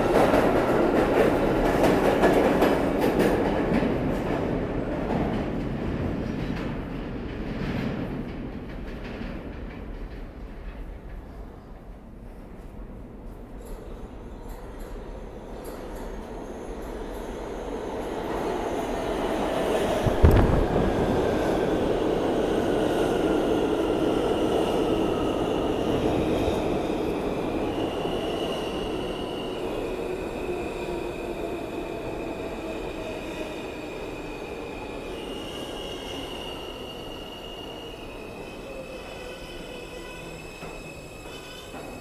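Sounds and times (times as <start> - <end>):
subway train slowing: 0.0 - 42.0.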